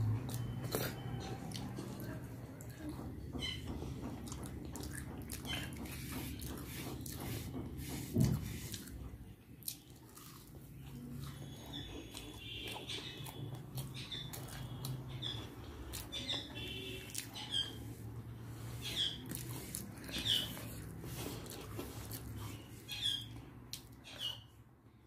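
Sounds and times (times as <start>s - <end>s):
mouth chewing food: 0.0s - 24.7s.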